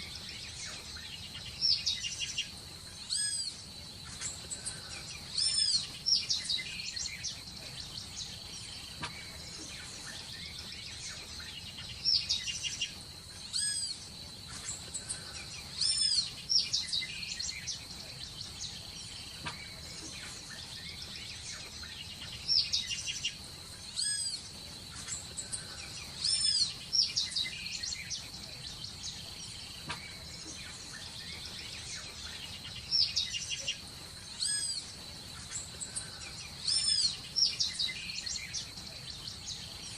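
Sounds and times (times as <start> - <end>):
birds chirping: 0.0 - 39.9
high insect drone: 0.0 - 39.9.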